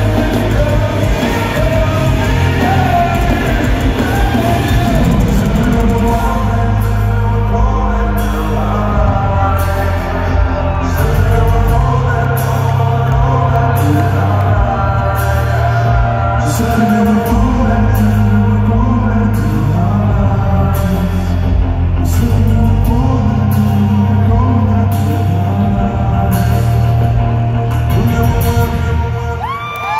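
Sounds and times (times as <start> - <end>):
person singing: 0.0 - 29.9
rock band playing live: 0.0 - 29.9.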